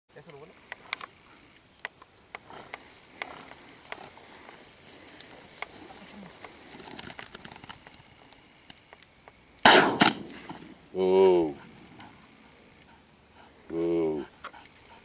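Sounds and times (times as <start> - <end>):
grass rustling: 0.1 - 15.0.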